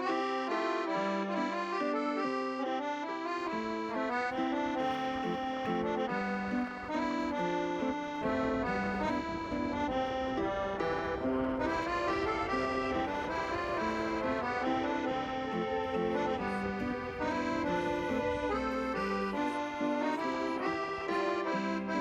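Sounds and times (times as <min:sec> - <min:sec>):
lively accordion music: 0:00.0 - 0:22.0.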